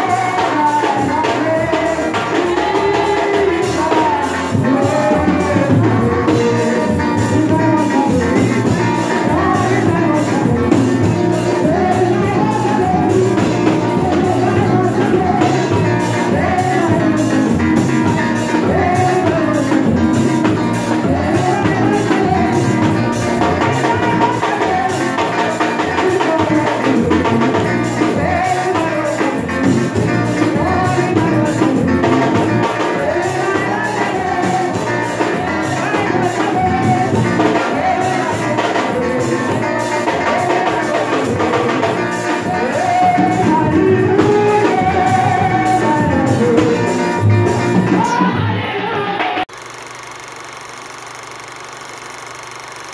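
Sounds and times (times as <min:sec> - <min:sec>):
drum kit beat: 0:00.0 - 0:48.5
gospel singing: 0:00.0 - 0:49.5
guitar: 0:00.0 - 0:52.9.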